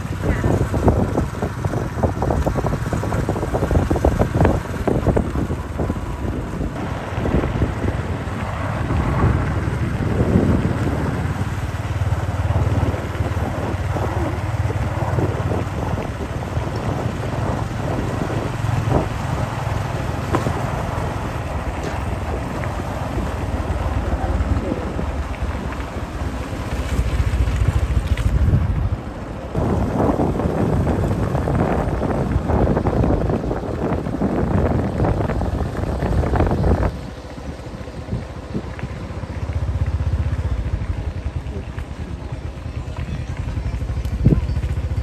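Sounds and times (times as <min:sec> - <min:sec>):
engine humming: 0:00.0 - 0:45.0
wind buffeting microphone: 0:00.0 - 0:45.0.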